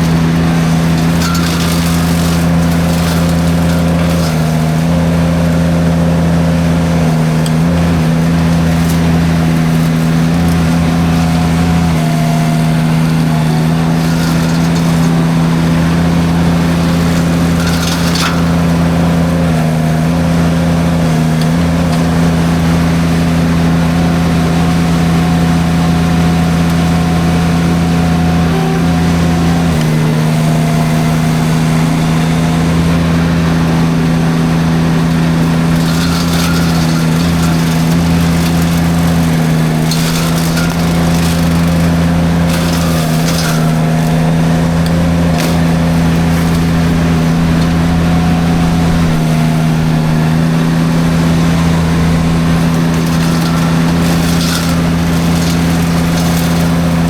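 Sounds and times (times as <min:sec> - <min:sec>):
mulcher shredding brush crackle: 0:00.0 - 0:57.0
skid steer engine running: 0:00.0 - 0:57.0.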